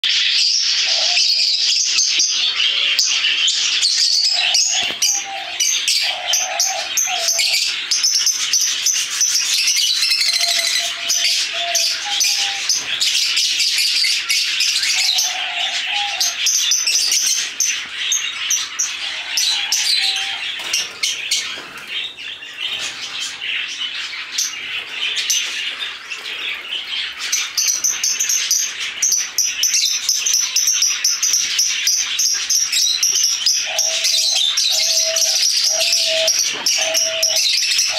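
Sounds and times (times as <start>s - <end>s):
cage birds chirping and chattering: 0.0s - 37.9s.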